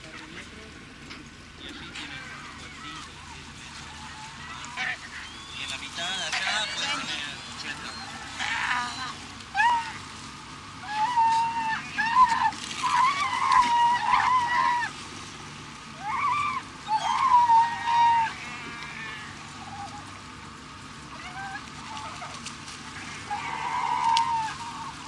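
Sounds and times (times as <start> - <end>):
sea lions bleating: 1.6 - 15.0, 15.8 - 25.0.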